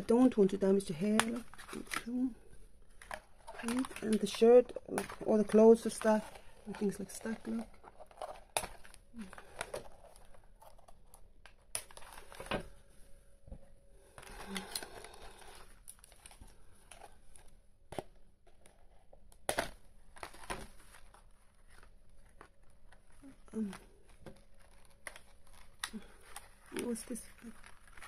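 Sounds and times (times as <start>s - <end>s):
packaging crinkling and tearing: 0.1s - 12.8s, 14.0s - 28.0s.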